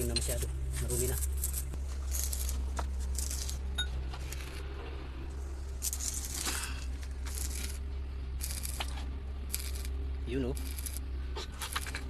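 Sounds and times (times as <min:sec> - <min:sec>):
tools scraping and rustling: 0:00.0 - 0:10.0, 0:10.6 - 0:12.0
machinery humming: 0:00.0 - 0:12.0.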